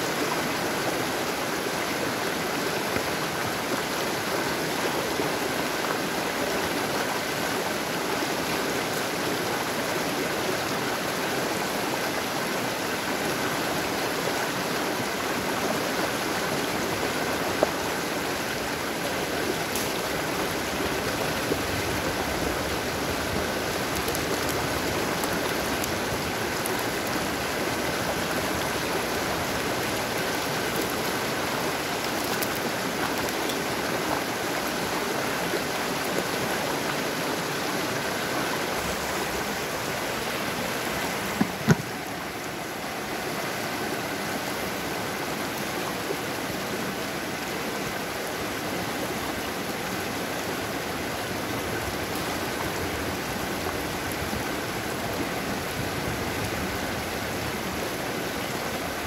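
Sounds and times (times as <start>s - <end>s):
stream rushing over rapids: 0.0s - 59.0s.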